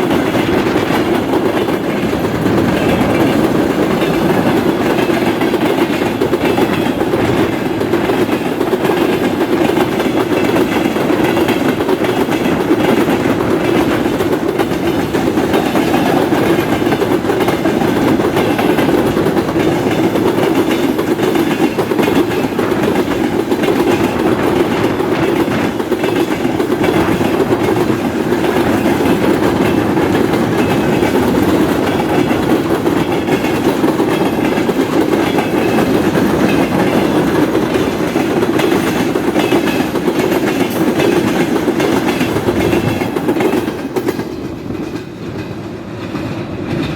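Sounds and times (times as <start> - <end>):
freight train wheels clacking: 0.0 - 46.9.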